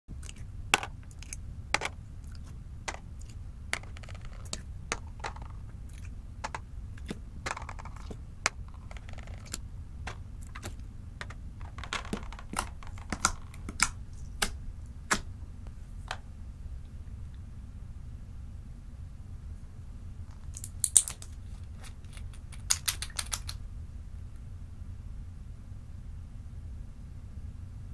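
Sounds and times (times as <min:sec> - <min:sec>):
steady low hum: 0:00.1 - 0:27.9.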